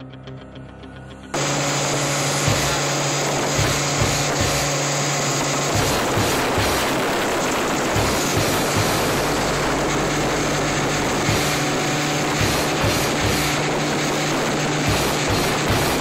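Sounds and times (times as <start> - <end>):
boat wake splashing: 1.4 - 16.0
outboard motor running: 1.4 - 16.0
wind rushing: 1.4 - 16.0.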